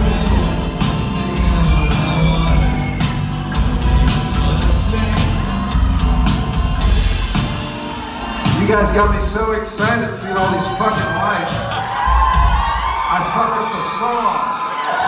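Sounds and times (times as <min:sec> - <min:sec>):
drums keeping steady beat: 0:00.0 - 0:13.6
live rock band playing: 0:00.0 - 0:14.0.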